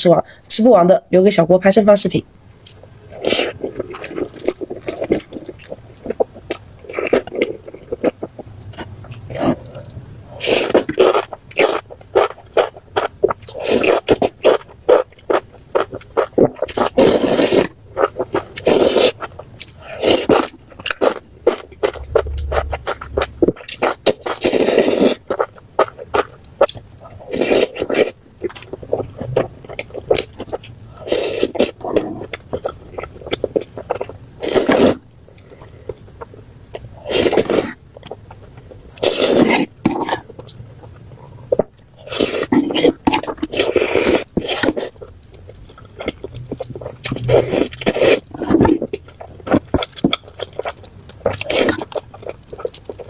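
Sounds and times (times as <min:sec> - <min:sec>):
wet chewing and lip-smacking: 0:02.6 - 0:53.0.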